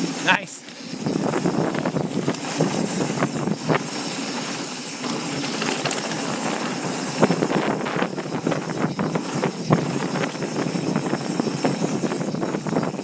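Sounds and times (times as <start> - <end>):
bike tyres rolling on dirt: 0.0 - 13.0
wind on microphone: 0.0 - 13.0
bike clattering over bumps: 0.8 - 13.0.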